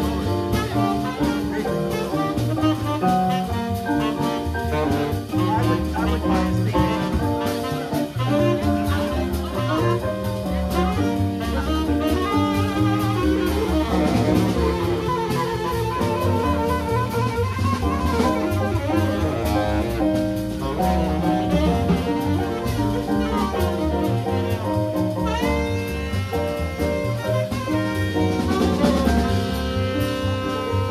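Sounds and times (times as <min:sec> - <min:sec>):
drum kit cymbals: 0:00.0 - 0:30.9.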